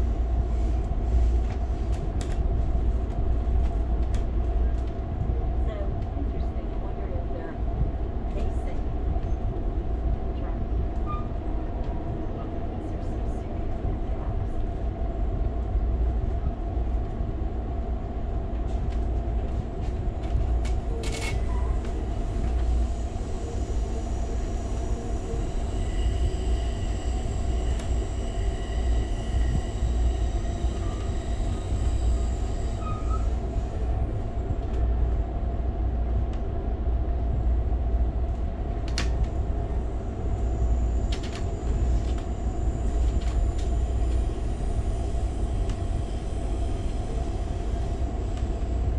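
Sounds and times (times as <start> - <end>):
constant hum: 0.0 - 48.9
rail car rumbling on track: 0.0 - 48.9.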